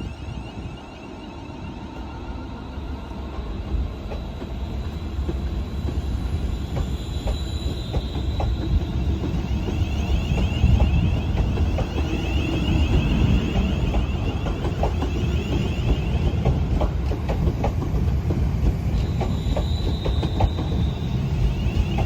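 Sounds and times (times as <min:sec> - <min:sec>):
high wheel squeal: 0:00.0 - 0:16.8, 0:18.8 - 0:22.0
train running on rails: 0:00.0 - 0:22.0.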